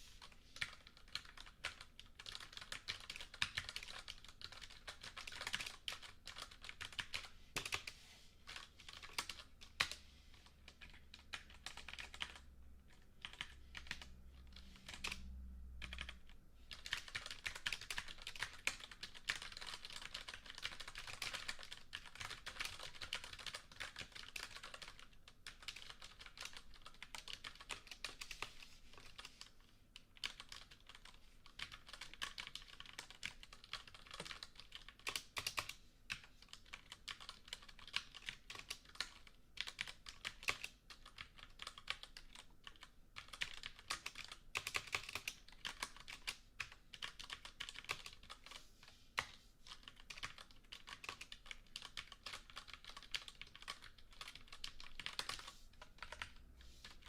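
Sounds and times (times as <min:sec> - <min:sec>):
typing on a computer keyboard: 0:00.2 - 0:48.6, 0:49.2 - 0:57.0.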